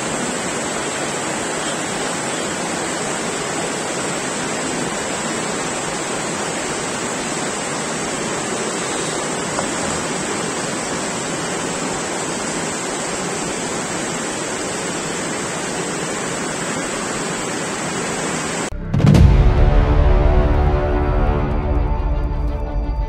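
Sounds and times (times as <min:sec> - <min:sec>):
heavy rain pouring: 0:00.0 - 0:22.5.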